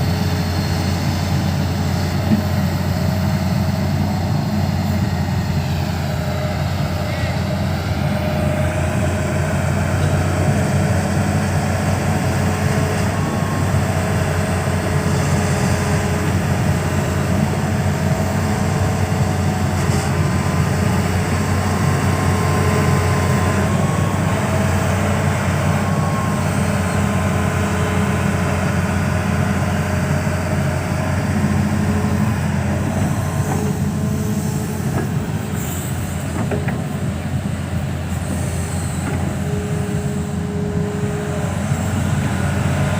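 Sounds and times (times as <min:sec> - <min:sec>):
diesel engine rumbling: 0:00.0 - 0:42.9
faint engine whine: 0:00.0 - 0:42.9.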